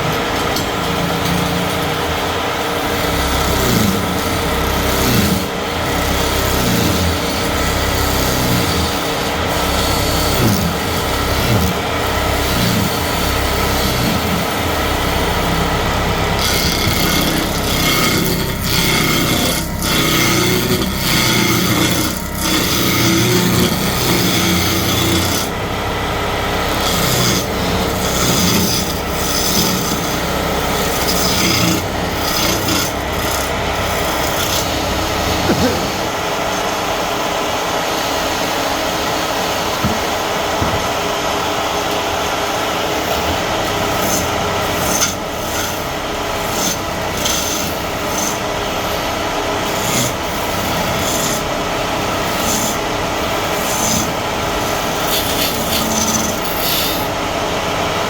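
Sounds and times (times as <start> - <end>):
tool rubbing on spinning wood: 0.0 - 57.8
wood lathe humming: 0.0 - 58.0.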